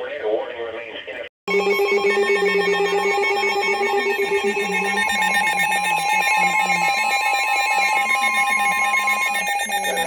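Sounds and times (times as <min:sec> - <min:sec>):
electronic alert alarm buzzing: 0:01.5 - 0:10.0.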